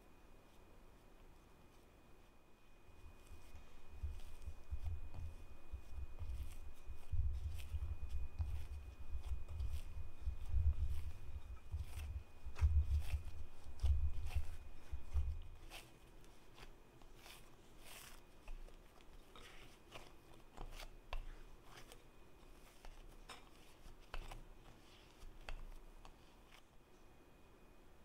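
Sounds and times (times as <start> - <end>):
dough being kneaded by hand: 0.4 - 26.9.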